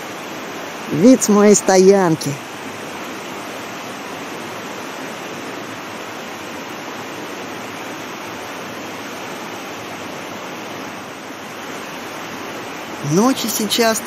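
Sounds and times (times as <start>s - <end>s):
river rushing over gravel: 0.0s - 14.0s.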